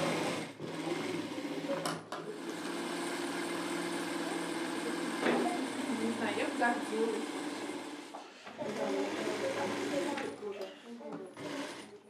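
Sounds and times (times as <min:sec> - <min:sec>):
sewing machine stitching: 0:00.0 - 0:10.4, 0:11.3 - 0:12.0.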